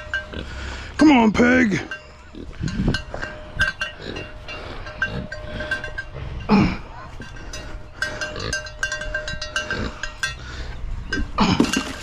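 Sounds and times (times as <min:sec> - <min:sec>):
light clinks and clicks: 0:01.8 - 0:12.0.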